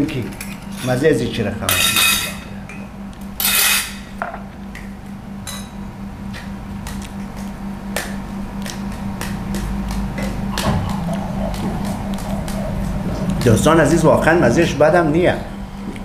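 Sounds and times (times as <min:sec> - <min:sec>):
low hum: 0:01.6 - 0:16.0.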